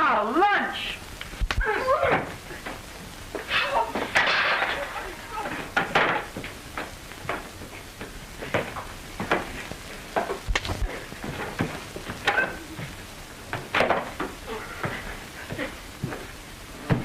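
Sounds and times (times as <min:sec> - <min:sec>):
old film soundtrack hiss: 0:00.0 - 0:17.0.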